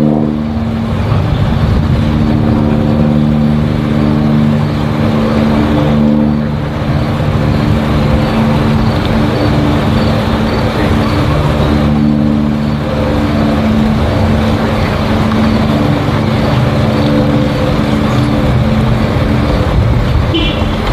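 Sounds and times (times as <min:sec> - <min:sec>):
light plane engine droning: 0:00.0 - 0:20.9.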